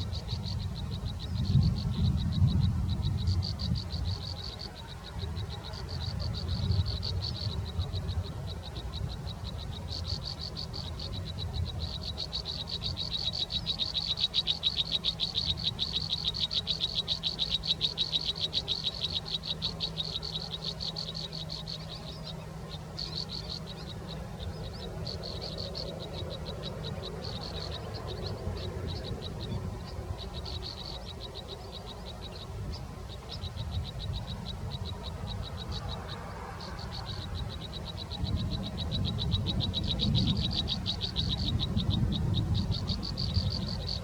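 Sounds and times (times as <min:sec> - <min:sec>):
frog or insect trilling: 0:00.0 - 0:44.0.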